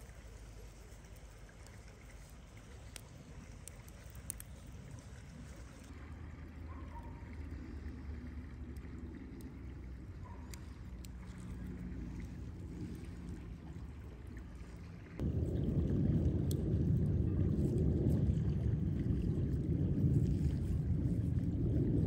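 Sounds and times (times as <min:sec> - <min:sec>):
wind rumble on microphone: 0:00.0 - 0:06.0, 0:06.7 - 0:22.0.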